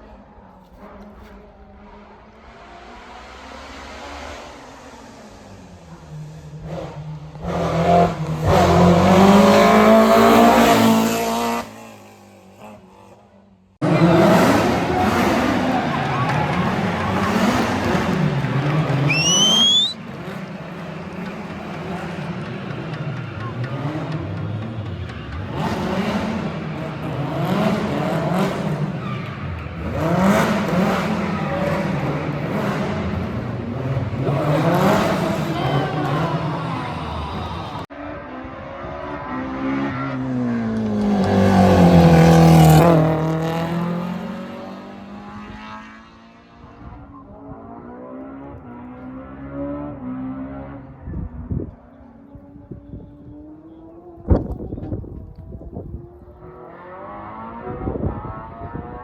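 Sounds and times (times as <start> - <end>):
rally car engine accelerating past: 0.0 - 13.2, 13.8 - 59.0.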